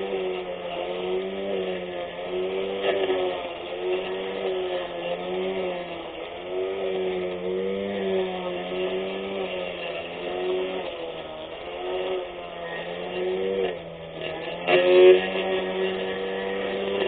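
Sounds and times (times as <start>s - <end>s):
electric lawn mower motor humming: 0.0s - 17.0s.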